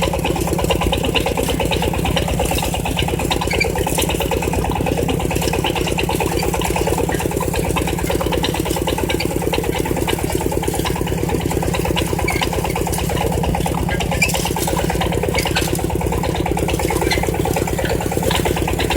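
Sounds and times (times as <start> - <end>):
walking tractor engine running: 0.0 - 18.9.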